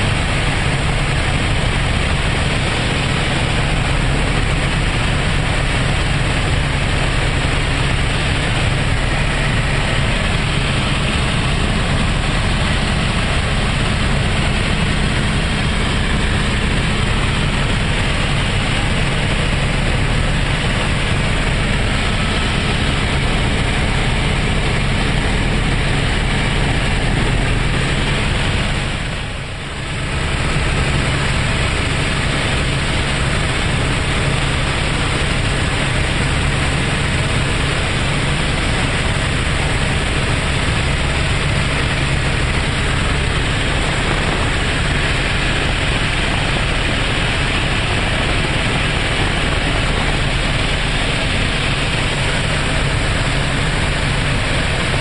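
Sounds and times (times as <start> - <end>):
low hum: 0.0 - 35.3, 36.3 - 55.0
helicopter engine and rotor drone: 0.0 - 55.0.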